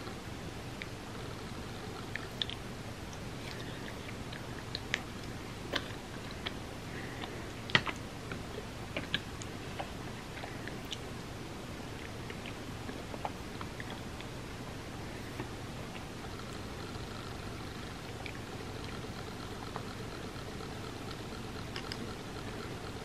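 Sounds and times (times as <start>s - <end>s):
steady low hiss: 0.0s - 23.0s
wet chewing and mouth sounds: 0.8s - 11.3s, 11.9s - 14.4s, 15.1s - 23.0s.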